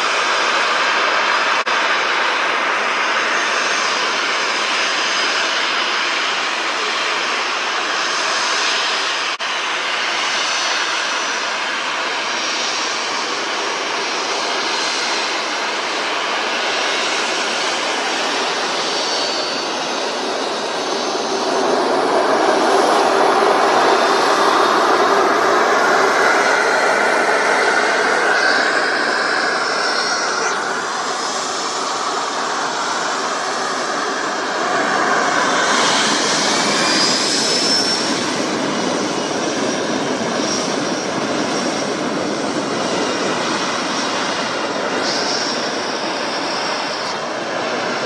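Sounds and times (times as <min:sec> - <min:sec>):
high jet engine whine: 0:00.0 - 0:48.0
jet engines at takeoff power: 0:00.0 - 0:48.0.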